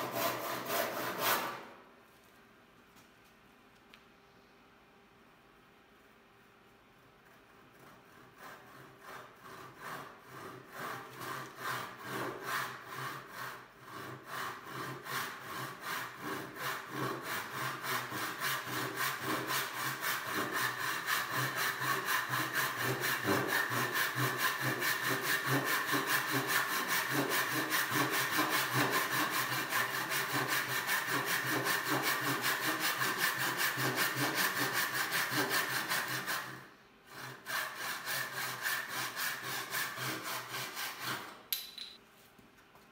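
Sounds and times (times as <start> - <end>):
handsaw sawing wood: 0.0 - 1.8, 7.6 - 41.4.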